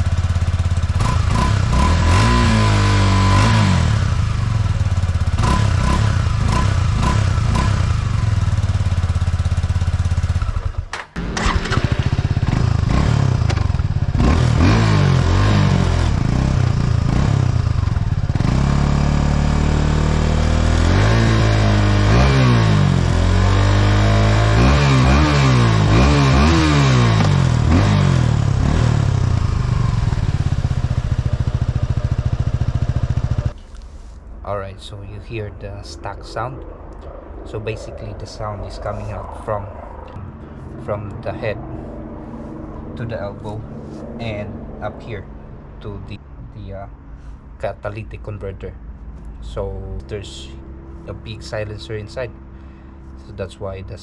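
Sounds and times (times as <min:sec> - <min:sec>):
motorcycle engine idling and revving: 0:00.0 - 0:34.2, 0:34.8 - 0:54.0.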